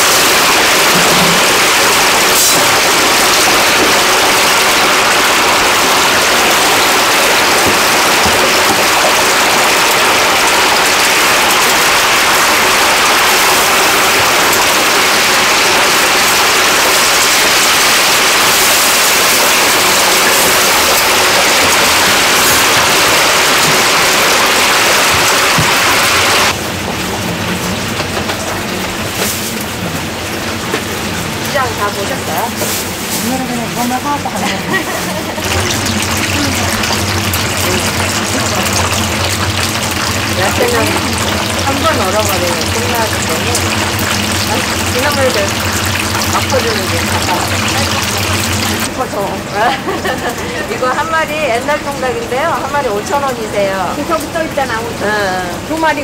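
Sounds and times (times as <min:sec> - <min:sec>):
chicken deep-frying in oil sizzling: 0:00.0 - 0:56.0.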